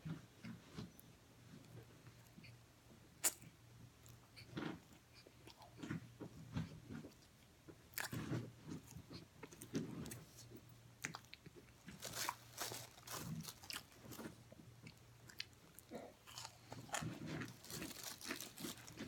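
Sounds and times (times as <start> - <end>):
crisp chewing crunches: 3.2 - 19.0.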